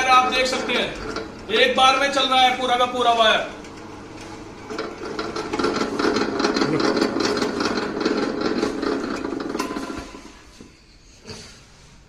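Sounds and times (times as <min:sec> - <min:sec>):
wire stripping machine rattling: 0:00.0 - 0:10.4.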